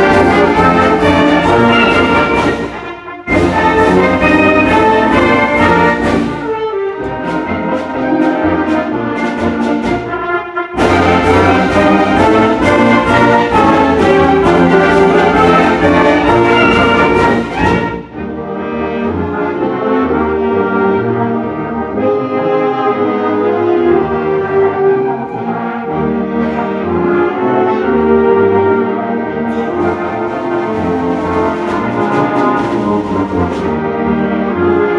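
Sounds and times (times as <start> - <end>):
concert band playing a march: 0.0 - 34.9.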